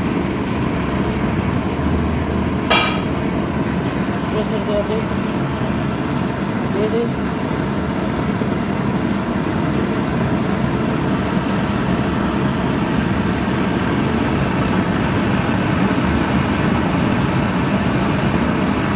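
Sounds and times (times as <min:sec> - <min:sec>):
gas forge burner roaring: 0:00.0 - 0:18.9.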